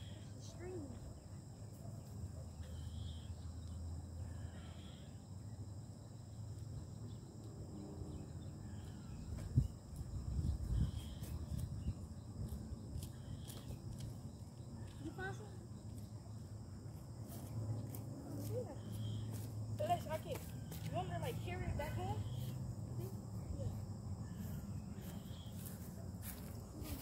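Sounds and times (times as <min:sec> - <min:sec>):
insects chorus: 0:00.0 - 0:27.0.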